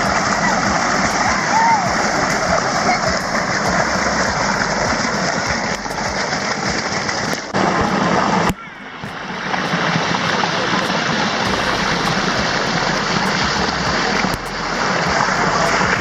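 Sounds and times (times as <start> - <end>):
faint voices: 0.0 - 16.0
stream water rushing: 0.0 - 16.0.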